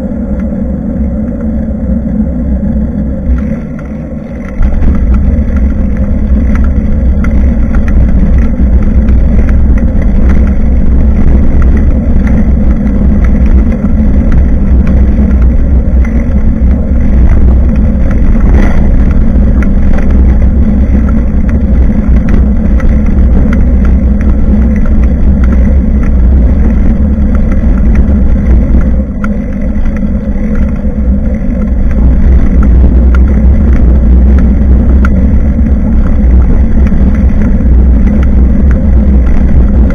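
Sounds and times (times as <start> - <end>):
wind and ride rumble: 0.0 - 39.9
small rattles: 3.3 - 39.9.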